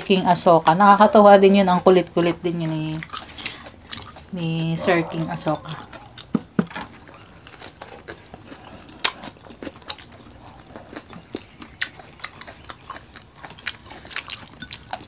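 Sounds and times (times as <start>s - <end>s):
people chewing and biting: 0.0s - 15.0s.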